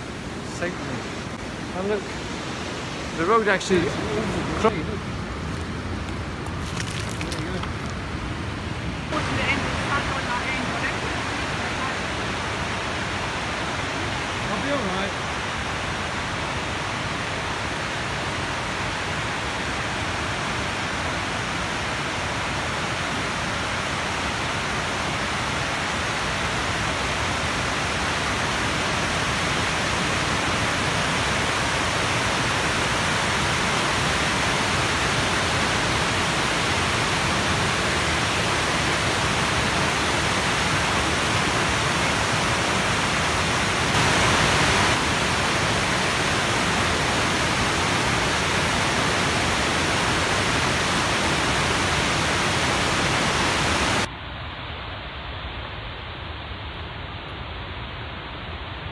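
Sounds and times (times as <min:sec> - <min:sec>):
water rushing over spillway: 0:00.0 - 0:54.1.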